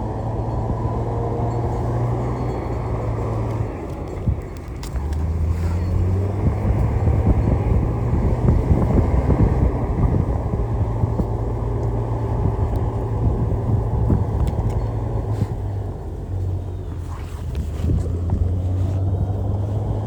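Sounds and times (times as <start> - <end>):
heavy diesel engine droning: 0.0 - 20.0.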